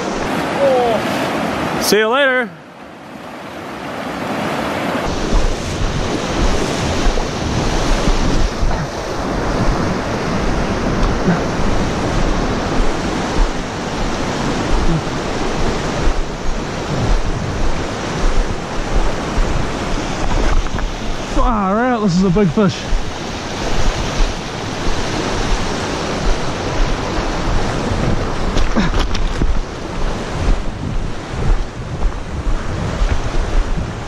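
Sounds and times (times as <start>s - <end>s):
river rapids rushing over rocks: 3.0s - 33.8s
wind buffeting microphone: 4.6s - 34.0s.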